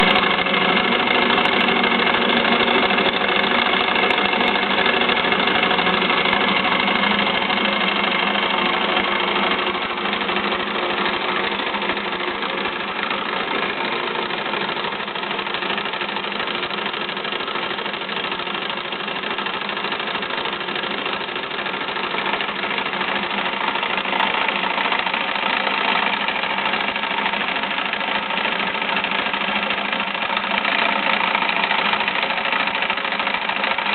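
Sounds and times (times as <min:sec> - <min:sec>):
model engine humming: 0:00.0 - 0:33.9.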